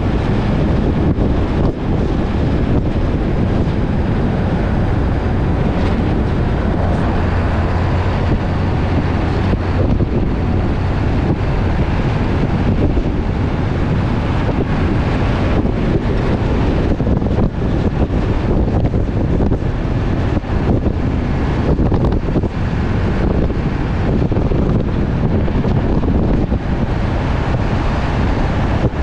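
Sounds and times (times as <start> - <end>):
truck engine and road noise: 0.0 - 29.0
wind buffeting microphone: 0.0 - 29.0.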